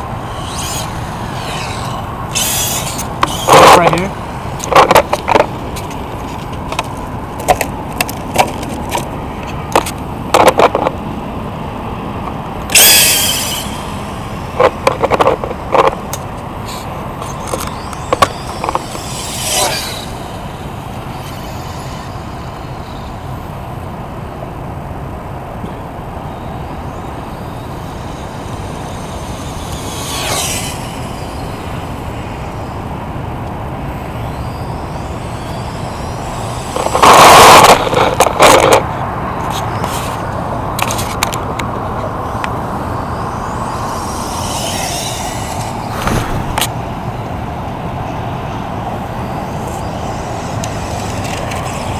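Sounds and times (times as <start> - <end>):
electric rc car passing by: 0.0 - 51.9
steady background noise: 0.0 - 51.9.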